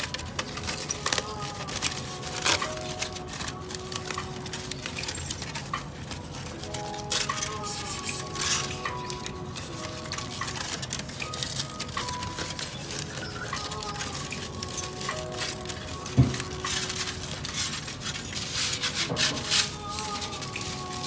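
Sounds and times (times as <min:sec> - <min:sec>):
aluminium foil crinkling: 0:00.0 - 0:21.0
background music with held notes: 0:00.0 - 0:21.0.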